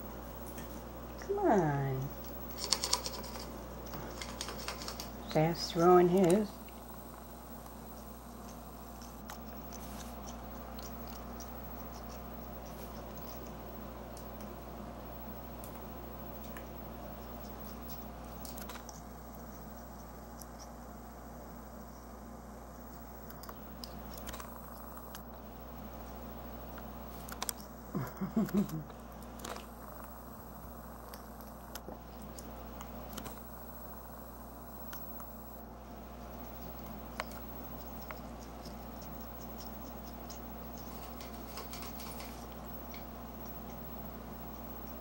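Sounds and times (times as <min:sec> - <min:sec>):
steady low hum: 0:00.0 - 0:45.0
beaks and claws clicking on plastic: 0:00.3 - 0:20.9, 0:22.9 - 0:33.7, 0:34.8 - 0:45.0.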